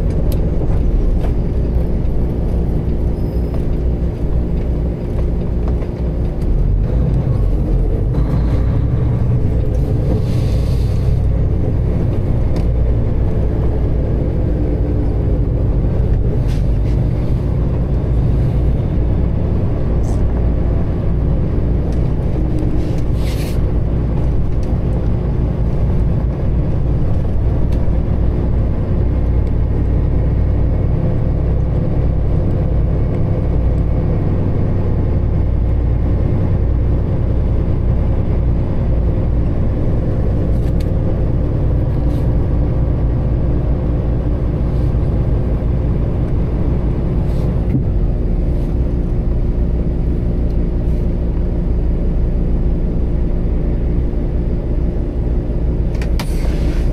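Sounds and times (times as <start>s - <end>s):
diesel truck engine rumbling: 0.0s - 56.9s.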